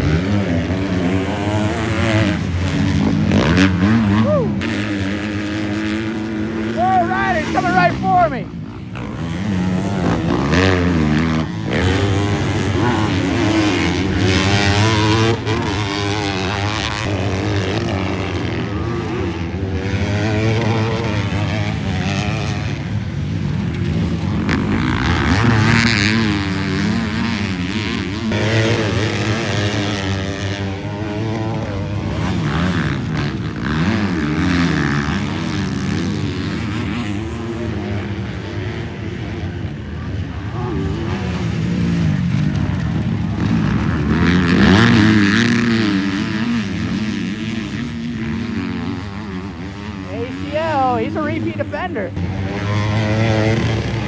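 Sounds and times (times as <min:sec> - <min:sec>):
motocross bikes revving past: 0:00.0 - 0:54.0.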